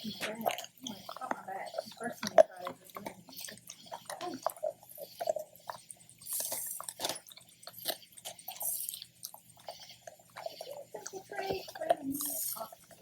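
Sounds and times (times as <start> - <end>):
puppies chewing on bone: 0.0 - 13.0.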